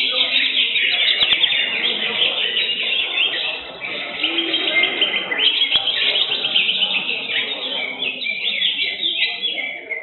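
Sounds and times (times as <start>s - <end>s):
birds chirping and trilling: 0.0s - 10.0s.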